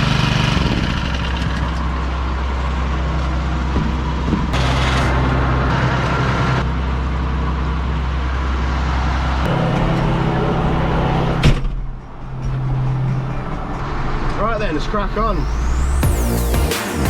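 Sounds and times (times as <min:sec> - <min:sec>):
engine running steadily: 0:00.0 - 0:13.8.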